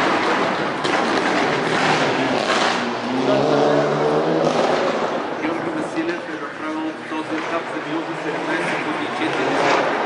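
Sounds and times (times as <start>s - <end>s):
crowd chatter: 0.0s - 10.0s
racing car engine revving: 0.0s - 10.0s.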